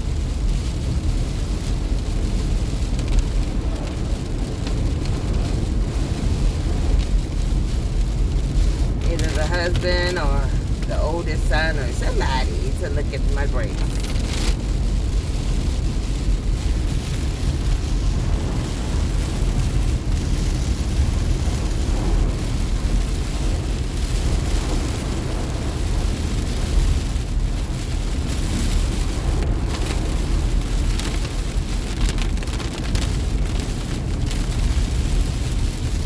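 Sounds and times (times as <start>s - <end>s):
car tyre and road noise: 0.0s - 36.0s
rain: 0.0s - 36.0s.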